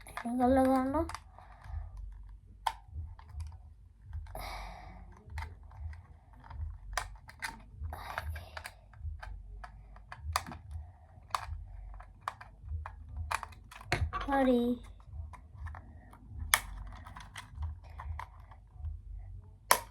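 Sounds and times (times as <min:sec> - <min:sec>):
sharp plastic clicks: 0:00.0 - 0:14.1, 0:14.8 - 0:18.8, 0:19.7 - 0:19.9.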